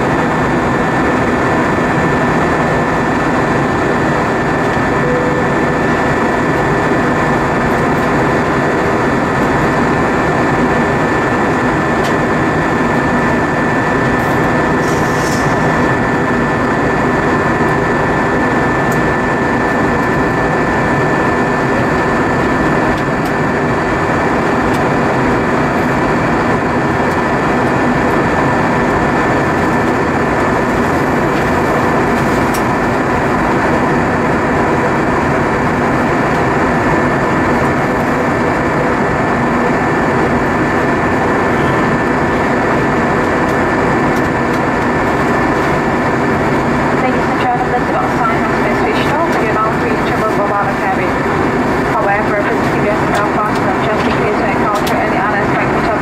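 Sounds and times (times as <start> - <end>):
airliner cabin engine roar: 0.0 - 56.0.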